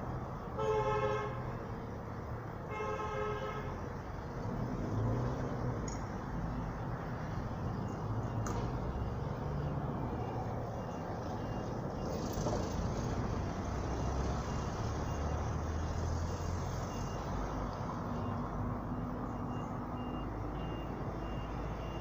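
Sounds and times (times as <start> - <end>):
large vehicle engine rumbling: 0.0 - 22.0.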